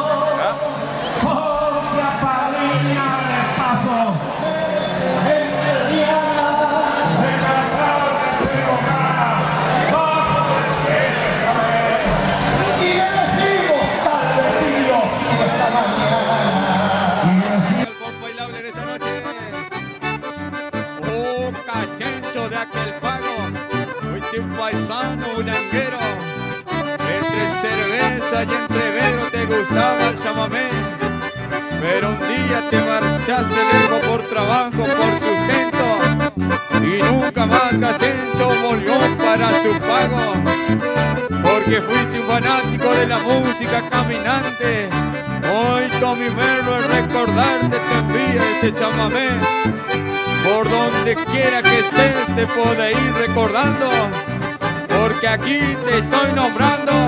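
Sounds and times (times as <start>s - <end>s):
accordion folk music: 0.0s - 57.0s.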